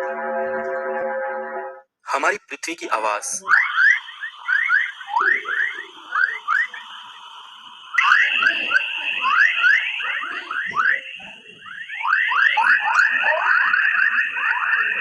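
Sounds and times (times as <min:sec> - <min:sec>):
steady high tone: 0:00.0 - 0:15.0
rising electronic chirps: 0:02.1 - 0:15.0.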